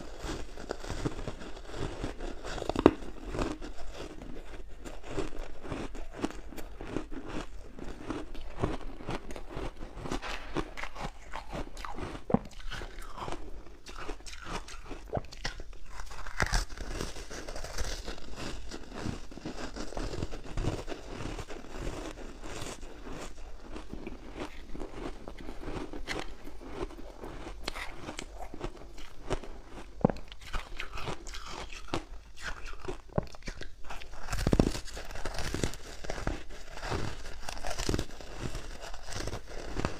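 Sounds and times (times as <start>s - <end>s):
ice cubes crunching: 0.1s - 39.9s.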